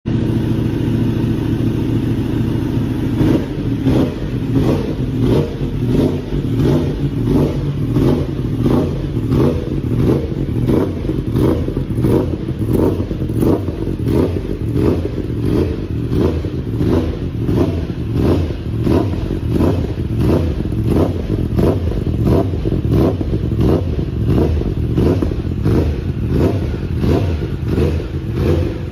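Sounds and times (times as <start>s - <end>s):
motorcycle engine revving: 0.1s - 28.9s.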